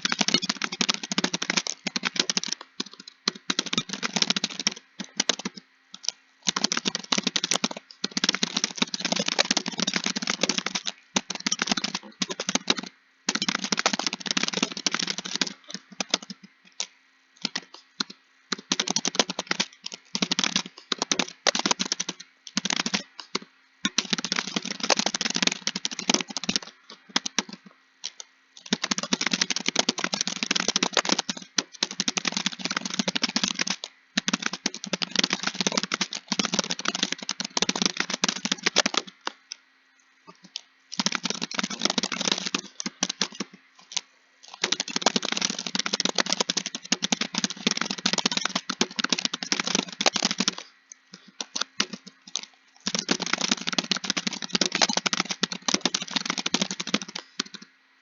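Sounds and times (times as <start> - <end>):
typing on computer keyboard: 0.0 - 39.6, 40.3 - 57.7.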